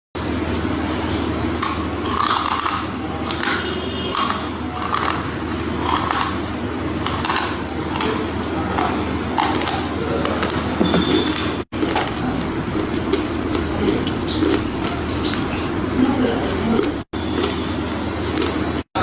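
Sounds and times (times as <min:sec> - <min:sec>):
steady low hum: 0:00.2 - 0:19.0
crunchy chewing: 0:01.5 - 0:18.8.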